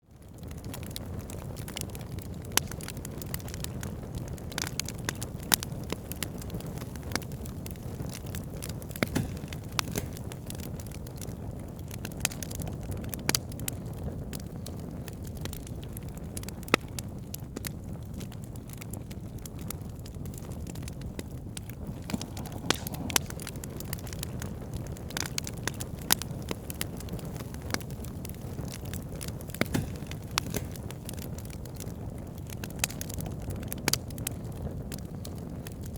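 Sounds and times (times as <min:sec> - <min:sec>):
low rumble of flames: 0:00.0 - 0:35.9
wood crackling and popping: 0:00.2 - 0:35.9.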